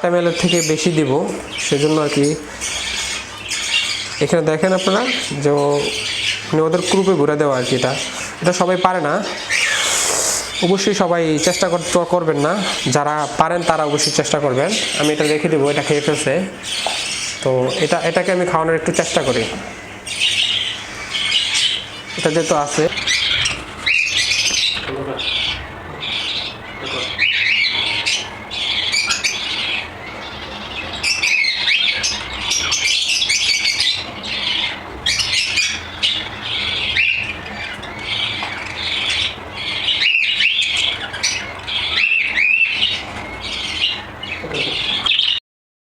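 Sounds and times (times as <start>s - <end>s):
chicks squawking: 0.0s - 45.4s.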